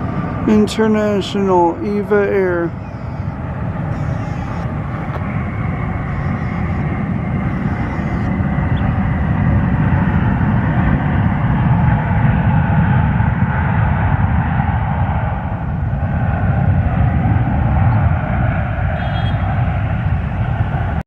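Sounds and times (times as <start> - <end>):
faint jet engine whine: 0.0 - 21.0
jet engines rumbling: 0.0 - 21.0.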